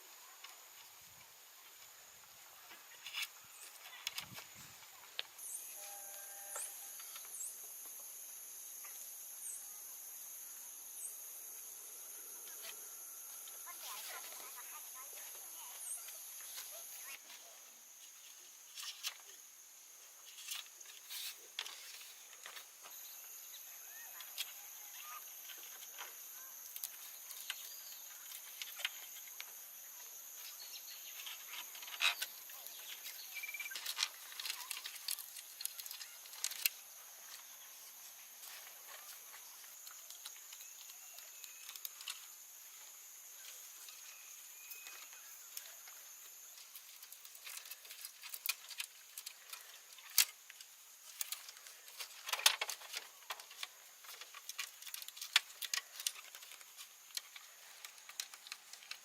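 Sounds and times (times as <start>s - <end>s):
high-pitched insect drone: 2.9s - 59.0s.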